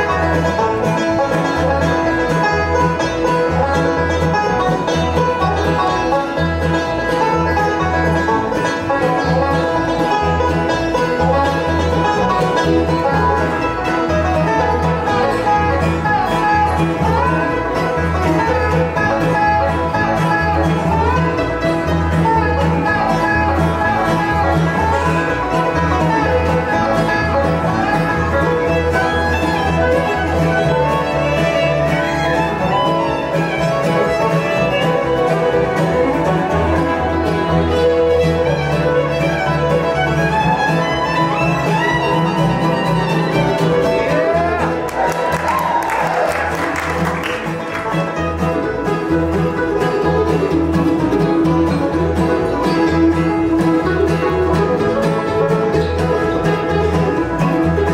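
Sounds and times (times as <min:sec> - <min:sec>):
acoustic guitar: 0:00.0 - 0:57.9
bowed fiddle: 0:00.0 - 0:57.9
mandolin: 0:00.0 - 0:57.9
resonator banjo: 0:00.0 - 0:57.9
upright bass: 0:00.0 - 0:57.9.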